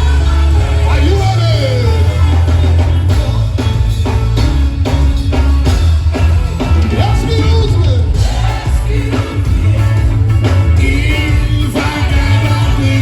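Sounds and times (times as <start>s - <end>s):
heavy bass: 0.0s - 13.0s
worship band playing: 0.0s - 13.0s.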